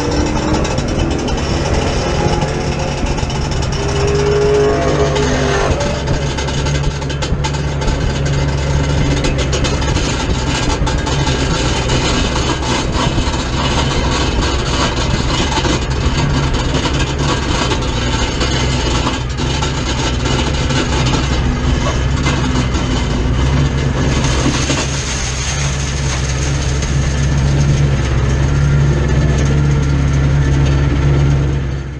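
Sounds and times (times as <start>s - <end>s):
race car engine idling: 0.0s - 31.9s.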